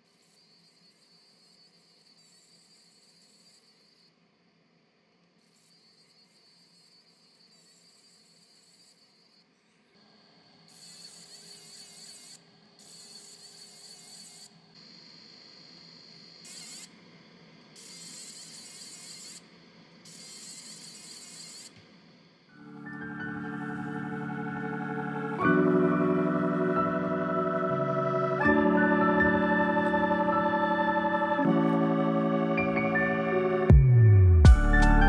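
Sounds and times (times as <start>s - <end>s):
laser engraving buzzing hiss: 0.0s - 4.2s, 5.2s - 30.3s.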